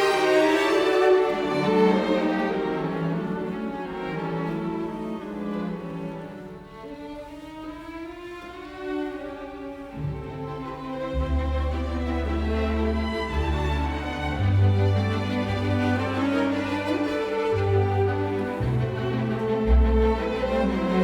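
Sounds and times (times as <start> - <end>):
bowed strings music: 0.0 - 21.0.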